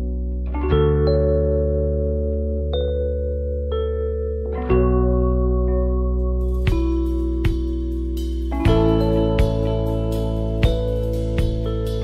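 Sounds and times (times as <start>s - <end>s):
sustained chords background music: 0.0s - 12.0s.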